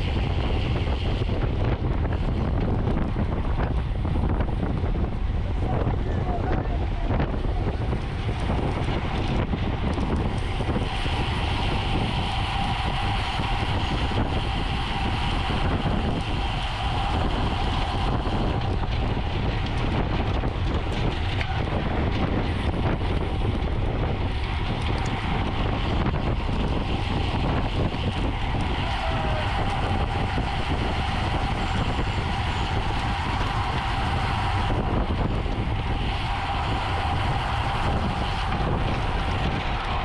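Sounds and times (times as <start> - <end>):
faint steady whine: 0.0 - 40.0
wind buffeting microphone: 0.0 - 40.0.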